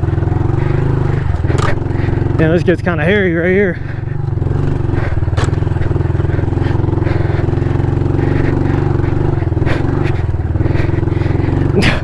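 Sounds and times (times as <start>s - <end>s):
motorbike engine running under load: 0.0s - 12.0s.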